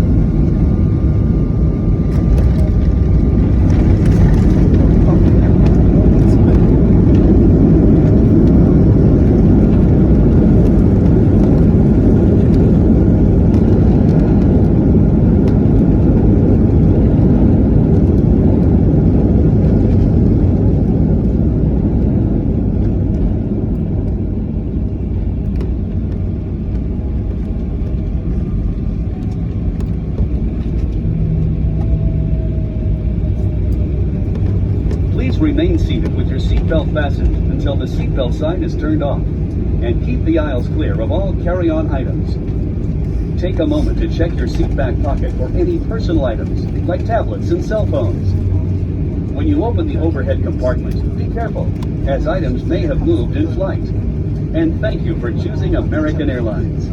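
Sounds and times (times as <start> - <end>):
airplane cabin engine rumble: 0.0 - 56.9.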